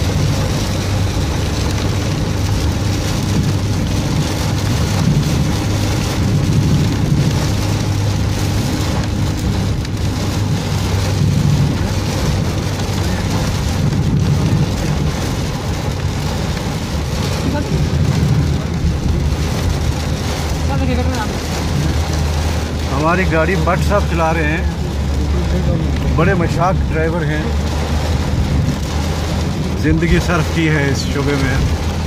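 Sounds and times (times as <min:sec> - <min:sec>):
car driving drone: 0:00.0 - 0:32.0
heavy rain on car roof: 0:00.0 - 0:32.0.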